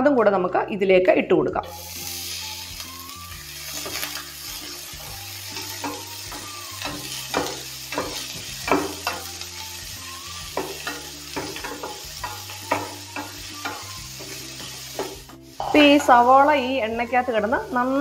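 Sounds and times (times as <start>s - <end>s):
onions sizzling in hot fat: 1.6s - 18.0s.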